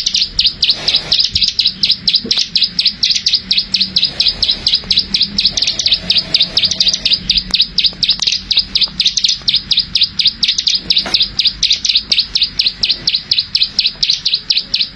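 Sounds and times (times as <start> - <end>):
bird calling with rapid clicks: 0.0 - 14.9.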